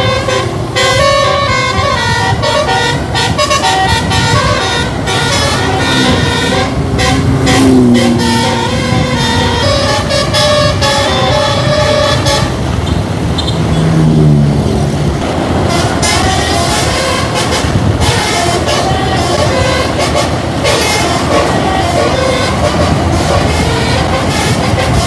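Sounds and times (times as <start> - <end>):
bus musical horn playing a tune: 0.0 - 14.1, 15.2 - 25.0
bus engine running: 0.0 - 25.0.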